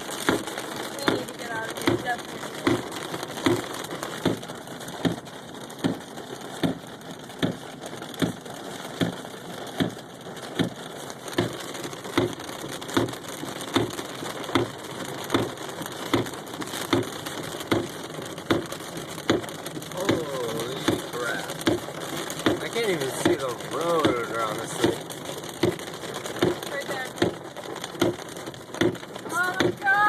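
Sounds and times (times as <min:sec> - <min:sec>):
rain beating on car: 0:00.0 - 0:30.0
windshield wipers thumping: 0:00.0 - 0:30.0.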